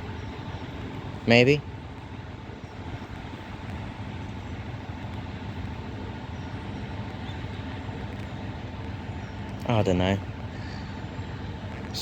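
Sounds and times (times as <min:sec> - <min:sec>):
diesel locomotive idling: 0:00.0 - 0:12.0
station background noise: 0:00.0 - 0:12.0.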